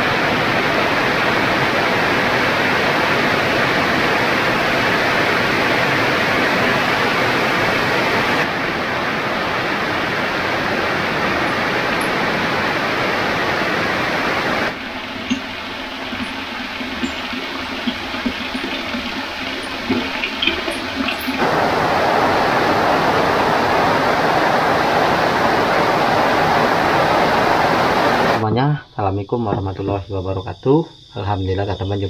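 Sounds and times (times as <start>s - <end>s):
rain streaming off a roof: 0.0s - 28.4s.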